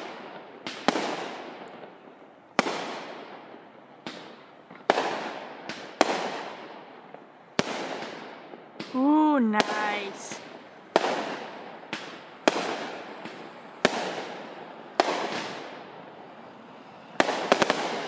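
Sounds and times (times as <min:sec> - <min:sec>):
fireworks bangs with echo: 0:00.0 - 0:18.0.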